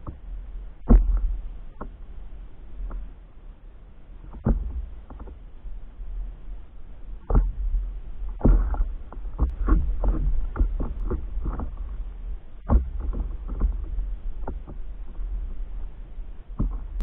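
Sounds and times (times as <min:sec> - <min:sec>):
small waves slapping a paddleboard: 0:00.0 - 0:17.0
steady low rumble: 0:00.0 - 0:17.0.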